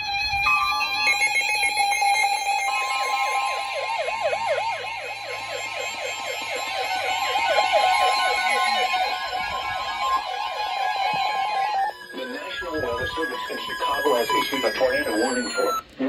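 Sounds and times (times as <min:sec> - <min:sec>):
steady warning alarm tone: 0:00.0 - 0:15.9
warbling siren alarm: 0:00.0 - 0:15.9.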